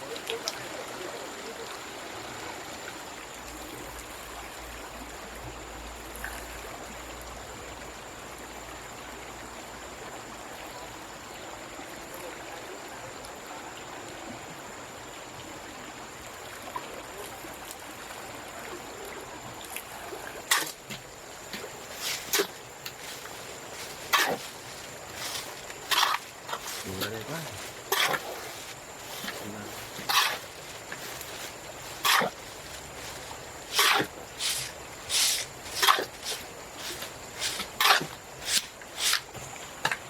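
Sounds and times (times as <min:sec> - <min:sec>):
running water: 0:00.0 - 0:40.0.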